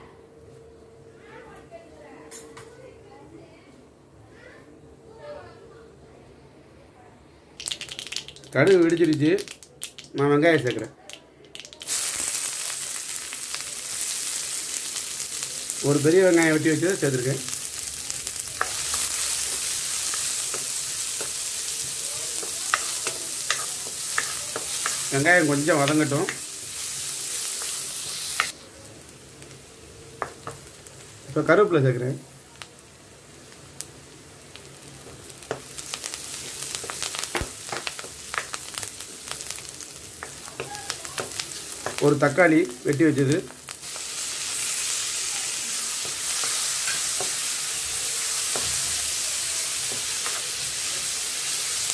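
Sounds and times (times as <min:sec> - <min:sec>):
onion sizzling in hot oil: 0:07.6 - 0:51.9.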